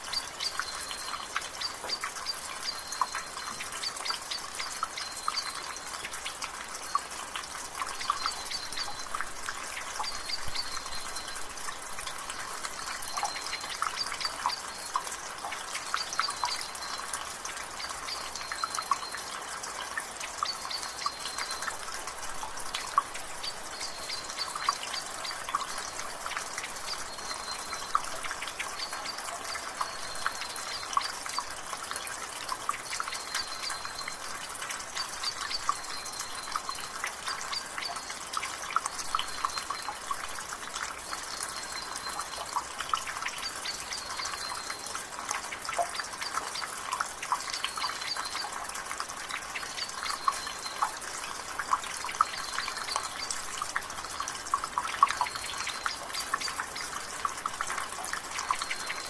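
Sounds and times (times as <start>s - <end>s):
rainwater dripping from gutter: 0.0s - 59.0s.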